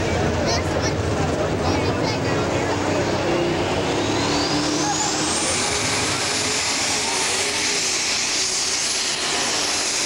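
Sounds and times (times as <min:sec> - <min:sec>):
diesel tractor engine running flat out: 0:00.0 - 0:10.0
high turbo whine: 0:00.0 - 0:10.0.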